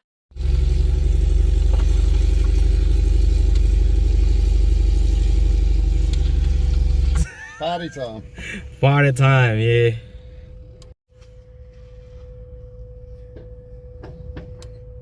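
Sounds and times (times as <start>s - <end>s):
engine running steadily: 0.3s - 15.0s.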